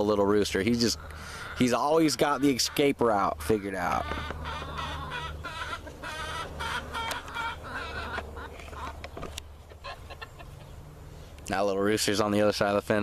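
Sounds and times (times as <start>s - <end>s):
chickens clucking: 0.0s - 11.7s.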